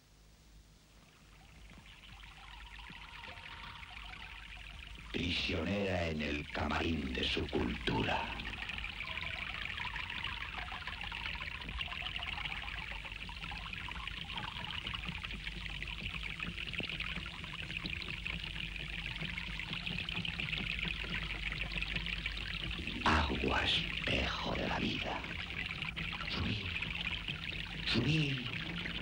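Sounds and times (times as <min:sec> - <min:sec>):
fountain water trickling: 0:00.8 - 0:29.0.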